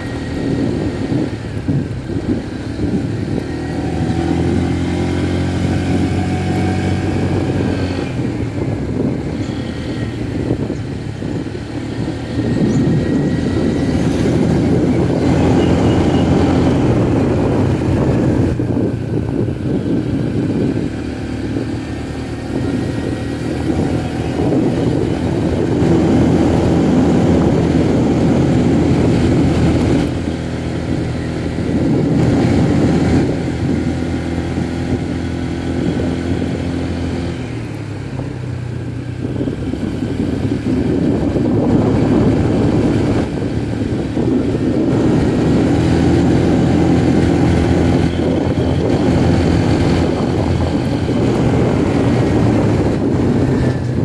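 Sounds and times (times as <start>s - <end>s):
scooter engine running: 0.0s - 54.0s
wind and road rush: 0.0s - 54.0s.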